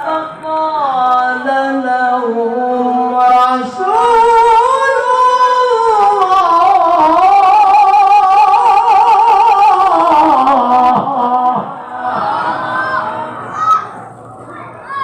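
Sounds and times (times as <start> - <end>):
man reciting melismatic chant: 0.0 - 13.4.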